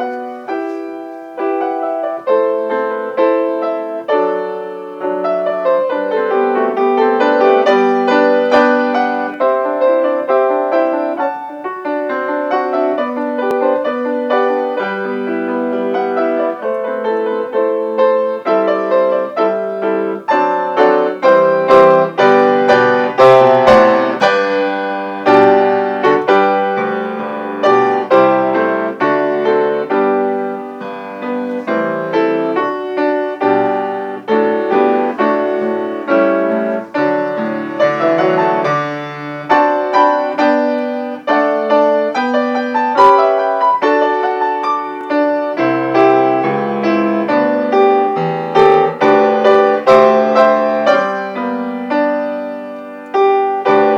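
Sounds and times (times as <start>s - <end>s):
solo piano playing: 0.0s - 53.9s.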